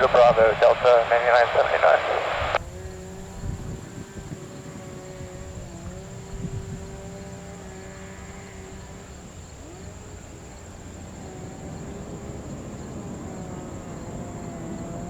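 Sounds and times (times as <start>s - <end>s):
distant jet engines rumbling: 0.0s - 15.0s
high insect drone: 0.0s - 15.0s.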